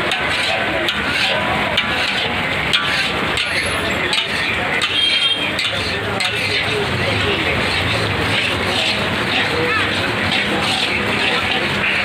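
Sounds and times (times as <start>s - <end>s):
metal spatula scraping a pan: 0.0s - 12.0s.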